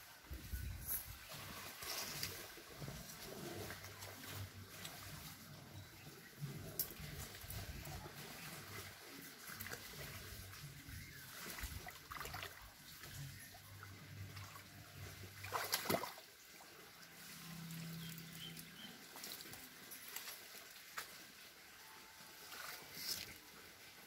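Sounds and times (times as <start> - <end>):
muddy water sloshing: 1.1 - 21.6.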